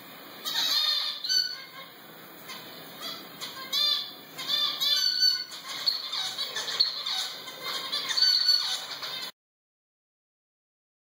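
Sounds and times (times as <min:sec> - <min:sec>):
finches calling: 0:00.4 - 0:09.3.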